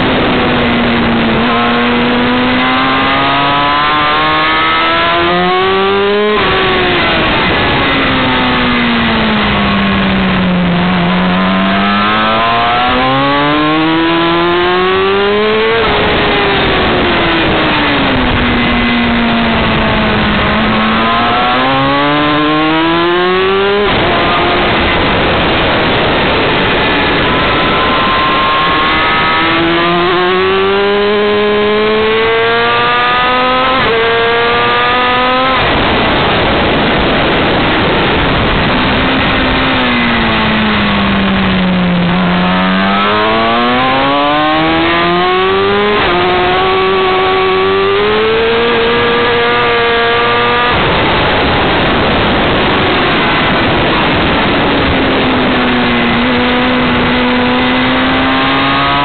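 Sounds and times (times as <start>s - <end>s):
motorcycle engine revving: 0.0s - 59.0s
wind rushing on microphone: 0.0s - 59.0s.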